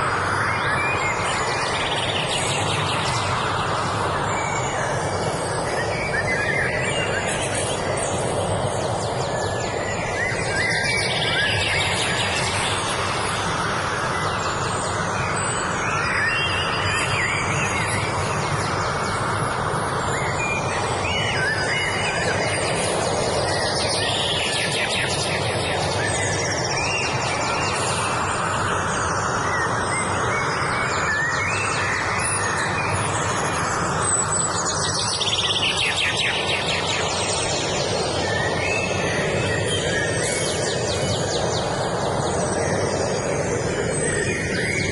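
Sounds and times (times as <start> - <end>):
steady rushing noise: 0.0 - 44.9.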